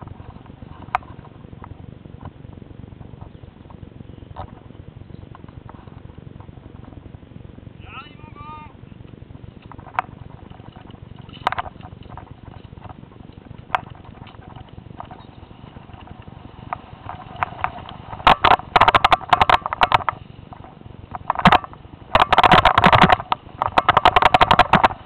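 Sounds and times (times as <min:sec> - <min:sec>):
bike rattling and clattering: 0:00.0 - 0:07.7, 0:08.6 - 0:25.0
bike rumbling on trail: 0:00.0 - 0:25.0.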